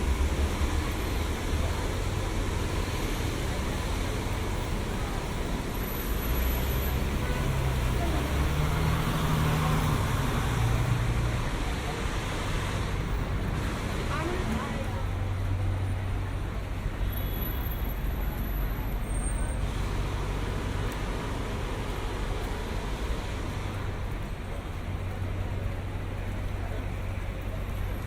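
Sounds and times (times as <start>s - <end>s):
faint voices of passers-by: 0.0s - 28.0s
passing vehicle engines rumbling: 0.0s - 28.0s.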